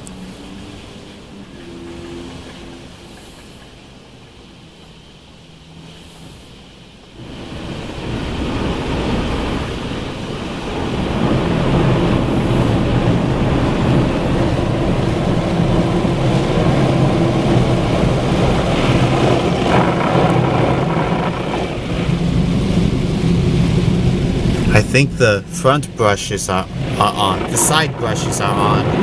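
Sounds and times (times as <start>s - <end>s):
car wash spinning brushes: 0.0s - 29.0s
steady motor hum: 0.0s - 29.0s
water spraying on car: 0.0s - 29.0s.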